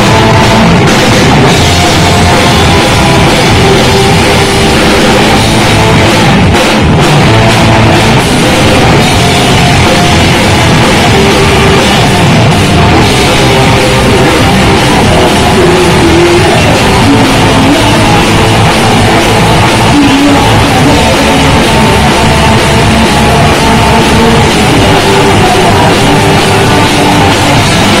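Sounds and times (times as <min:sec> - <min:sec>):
drum kit: 0:00.0 - 0:28.0
electric bass: 0:00.0 - 0:28.0
electric guitars: 0:00.0 - 0:28.0.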